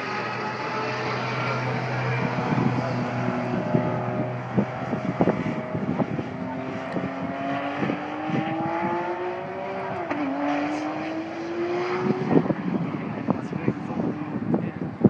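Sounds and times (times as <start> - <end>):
car engine accelerating: 0.0 - 15.0
wind buffeting microphone: 1.8 - 15.0.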